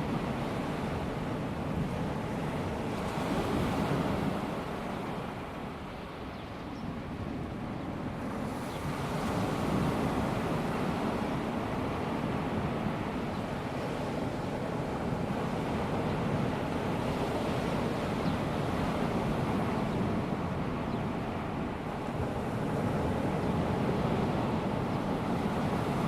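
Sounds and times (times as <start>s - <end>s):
small waves washing onto beach: 0.0s - 6.3s, 6.9s - 26.0s.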